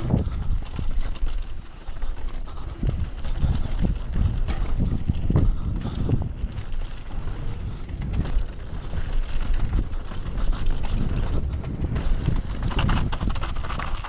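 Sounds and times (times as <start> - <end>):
bike knocking and rattling: 0.0 - 14.0
bike tyres on dirt: 0.0 - 14.0
wind buffeting microphone: 0.0 - 14.0.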